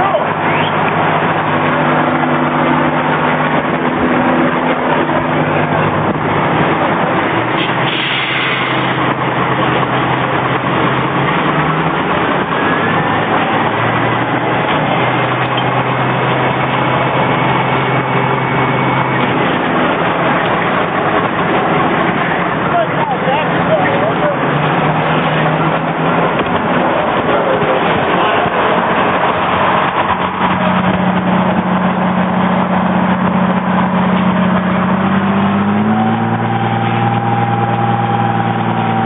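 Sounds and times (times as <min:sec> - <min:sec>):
fire engine engine running: 0:00.0 - 0:39.0
loud continuous rushing noise: 0:00.0 - 0:39.0.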